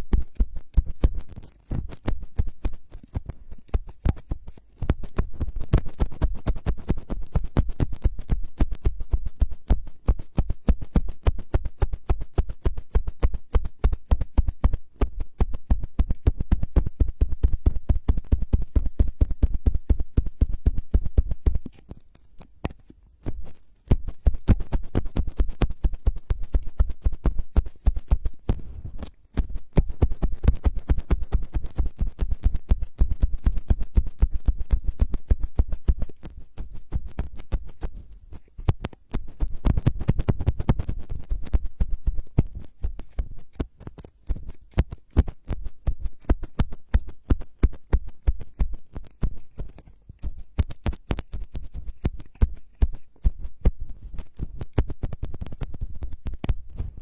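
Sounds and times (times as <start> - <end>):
tapping and scratching on microphone: 0.0 - 57.0.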